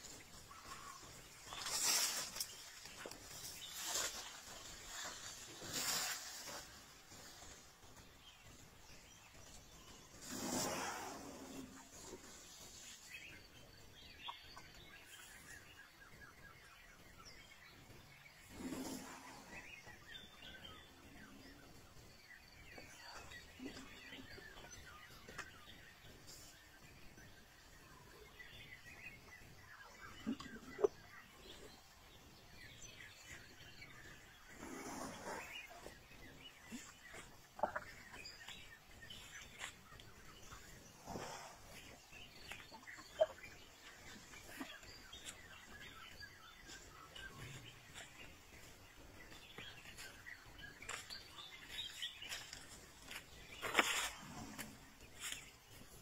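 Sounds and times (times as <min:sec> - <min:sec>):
faint birds chirping: 0:00.0 - 0:56.0.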